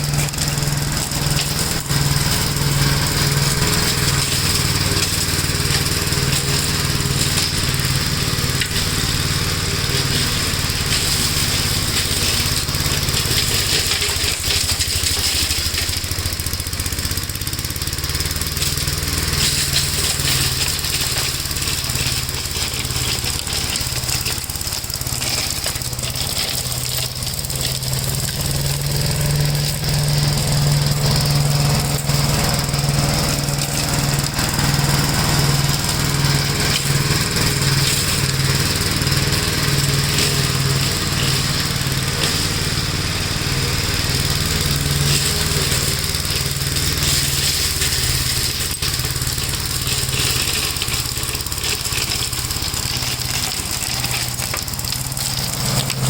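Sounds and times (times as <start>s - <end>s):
single-cylinder engine running: 0.0s - 56.0s.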